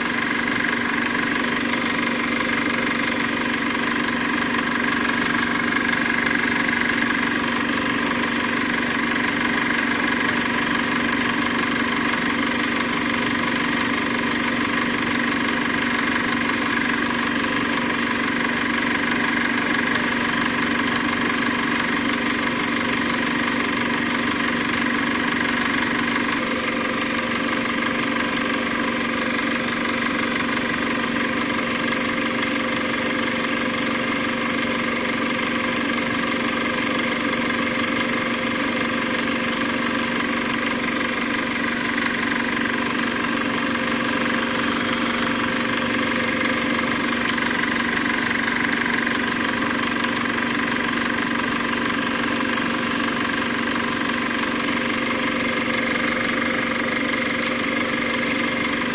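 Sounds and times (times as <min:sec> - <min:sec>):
motor-like hum: 0:00.0 - 0:58.9.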